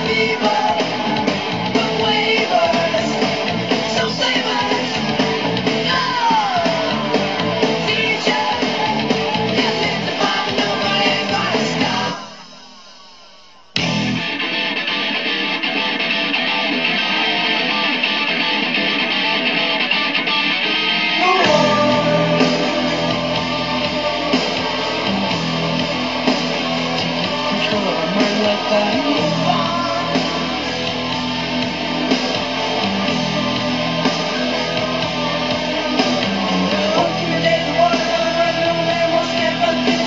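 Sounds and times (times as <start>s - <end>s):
guitar-led rock music: 0.0s - 40.0s.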